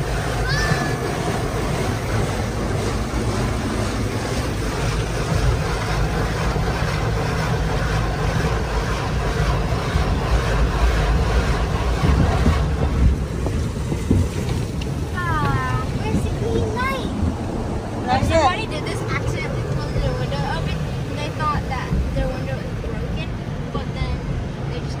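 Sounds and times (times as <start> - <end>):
car wash brushes and water spray: 0.0 - 25.0
deep rumble: 0.0 - 25.0.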